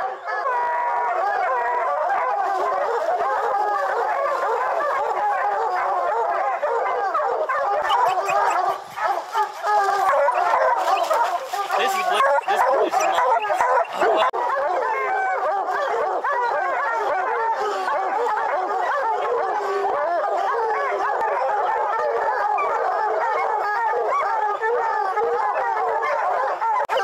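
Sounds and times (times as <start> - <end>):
pack of hounds baying: 0.0 - 27.0.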